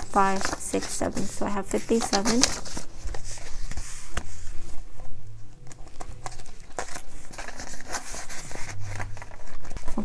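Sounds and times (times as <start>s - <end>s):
paper bills rustling: 0.0s - 4.8s, 5.6s - 10.0s.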